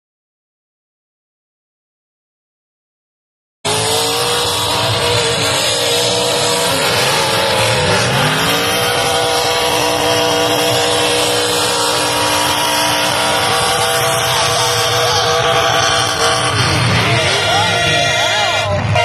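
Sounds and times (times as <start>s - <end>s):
car engines running loudly: 3.7s - 19.0s
engine revving: 3.7s - 19.0s.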